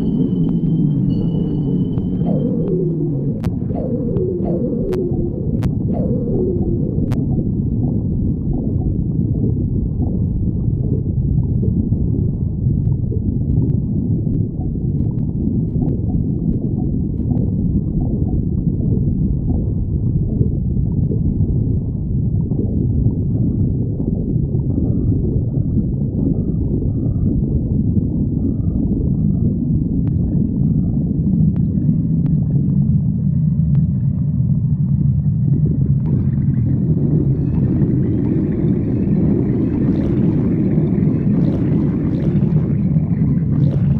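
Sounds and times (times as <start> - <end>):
stomach growling: 0.0 - 43.9.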